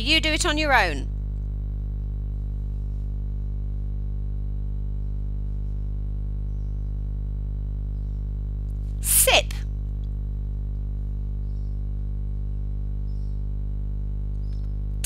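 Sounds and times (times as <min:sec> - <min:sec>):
low buzzing hum: 0:00.0 - 0:15.0.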